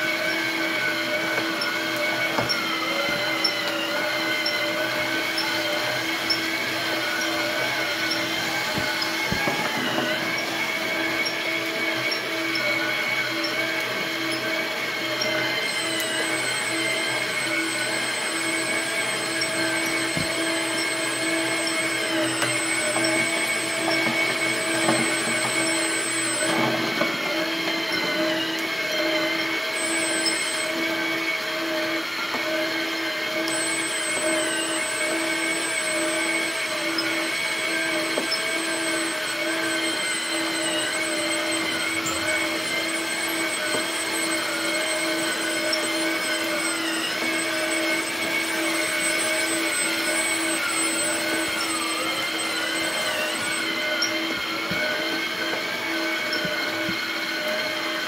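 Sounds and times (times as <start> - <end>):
electric motor and gearbox whining: 0.0 - 58.0.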